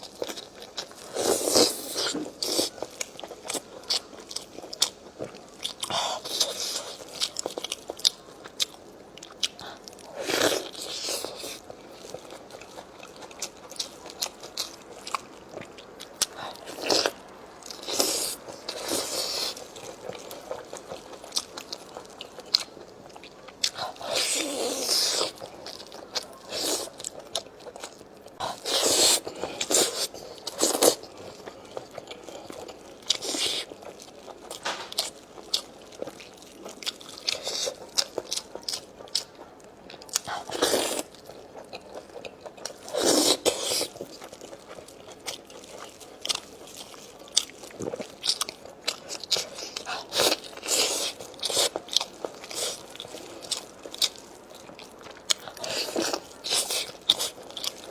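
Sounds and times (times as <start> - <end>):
person chewing and crunching: 0.0 - 57.9.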